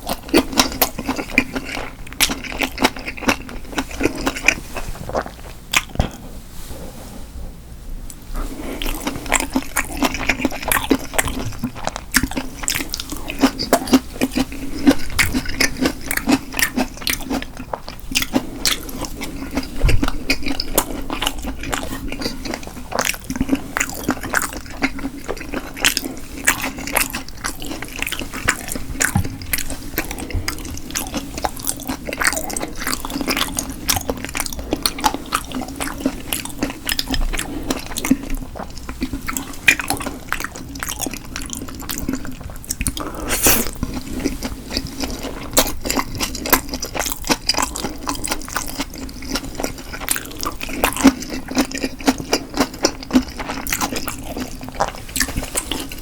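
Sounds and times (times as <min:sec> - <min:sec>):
chewing and biting food: 0:00.0 - 0:06.2, 0:08.4 - 0:56.0.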